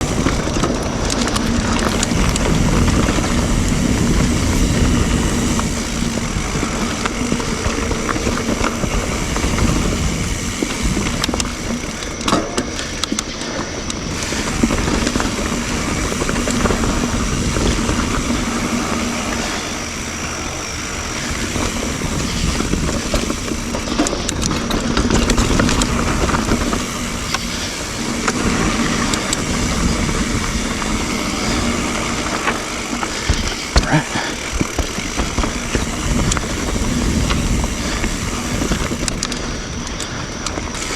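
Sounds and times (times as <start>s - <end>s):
bike rattling and knocking: 0.0s - 40.9s
tyres rolling over dirt: 0.0s - 40.9s
wind rumbling on microphone: 0.0s - 40.9s.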